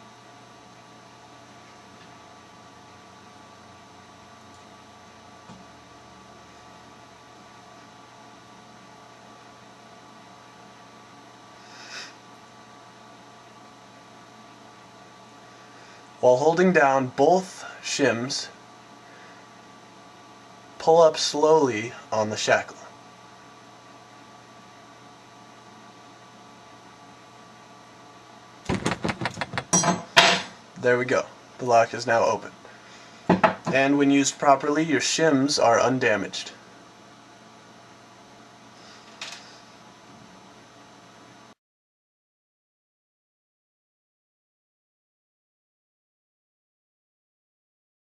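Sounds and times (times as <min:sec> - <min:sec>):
electrical mains hum: 0:00.0 - 0:41.6.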